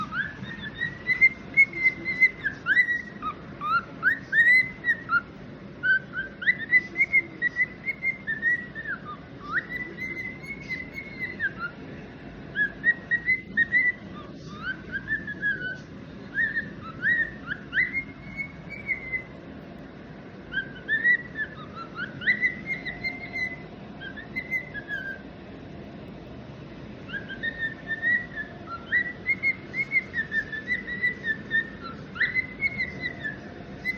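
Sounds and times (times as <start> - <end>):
cockatiel whistling: 0.0 - 11.8, 12.4 - 19.4, 20.4 - 25.3, 27.0 - 33.9.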